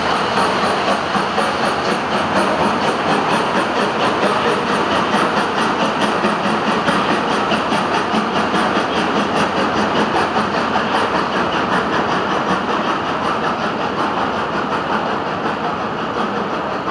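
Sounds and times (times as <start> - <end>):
freight train rolling on rails: 0.0 - 16.9.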